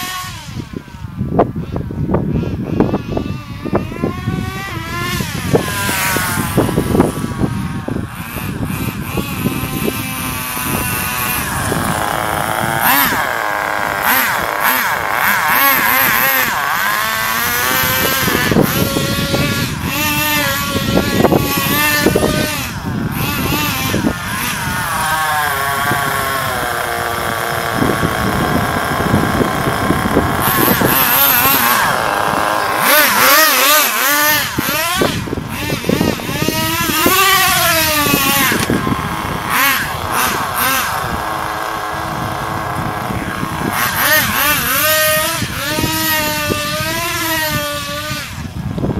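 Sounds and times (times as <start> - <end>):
rc car engine revving: 0.0 - 48.9.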